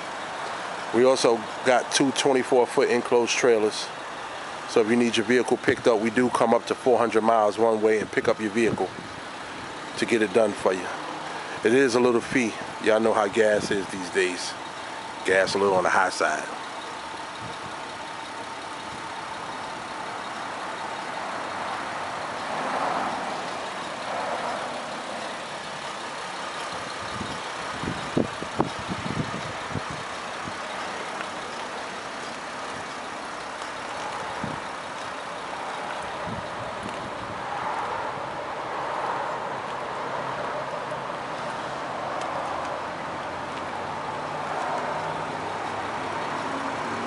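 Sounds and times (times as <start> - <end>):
vehicle background noise: 0.0 - 47.0.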